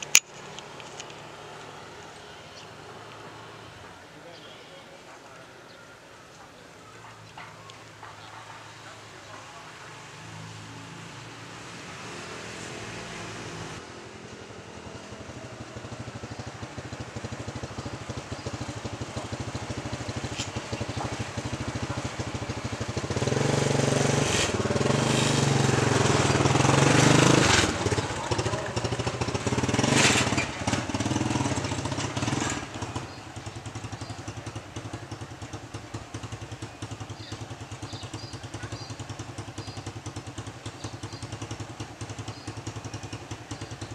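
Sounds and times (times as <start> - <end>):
vehicles passing by: 0.0 - 43.9.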